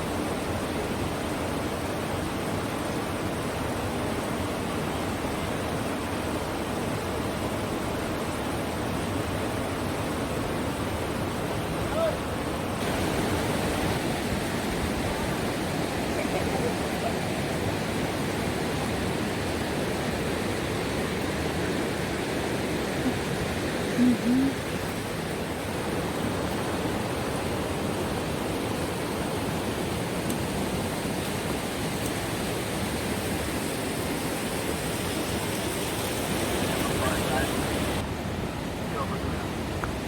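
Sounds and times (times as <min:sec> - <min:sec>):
river water rushing over rapids: 0:00.0 - 0:40.0.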